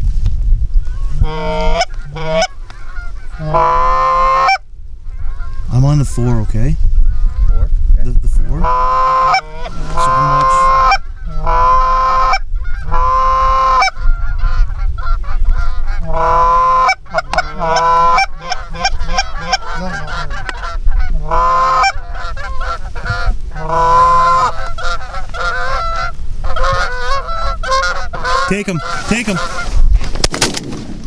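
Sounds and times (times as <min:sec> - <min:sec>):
geese honking: 0:00.9 - 0:05.8, 0:08.5 - 0:29.8.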